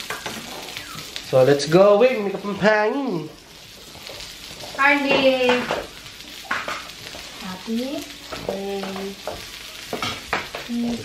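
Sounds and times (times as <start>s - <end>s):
food sizzling on grill plate: 0.0s - 11.0s.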